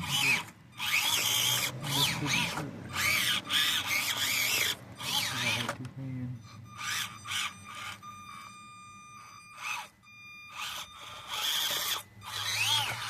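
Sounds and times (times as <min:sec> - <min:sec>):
scraping bursts: 0:00.0 - 0:05.9, 0:06.5 - 0:08.6, 0:09.2 - 0:13.0
small electric motor whining: 0:00.0 - 0:13.0.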